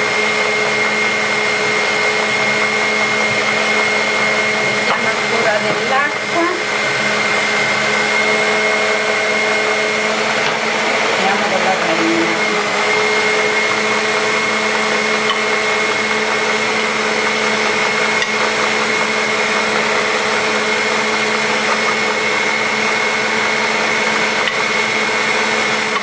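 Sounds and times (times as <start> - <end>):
stand mixer motor humming: 0.0 - 26.0.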